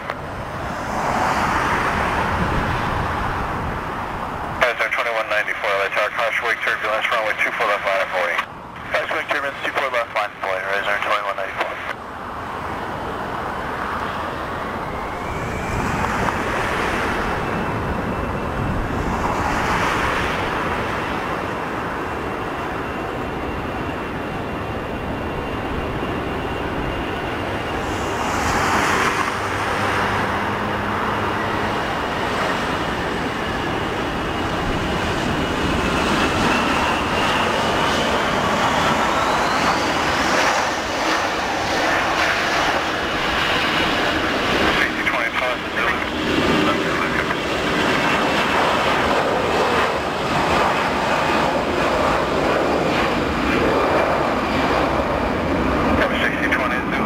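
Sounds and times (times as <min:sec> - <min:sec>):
jet engines whining: 0:00.0 - 0:57.0
passing jet roar: 0:00.0 - 0:57.0.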